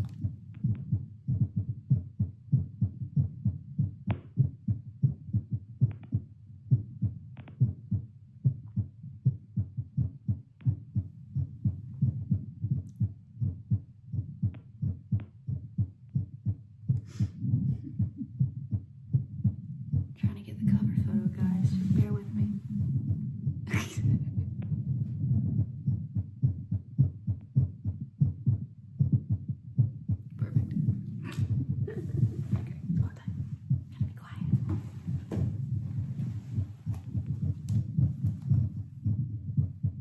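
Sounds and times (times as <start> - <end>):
heartbeat thumps: 0.0 - 40.0.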